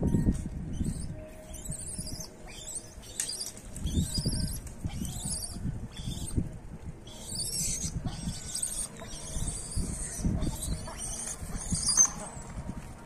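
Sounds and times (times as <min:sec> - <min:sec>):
small birds chirping: 0:00.1 - 0:06.4, 0:07.1 - 0:12.8.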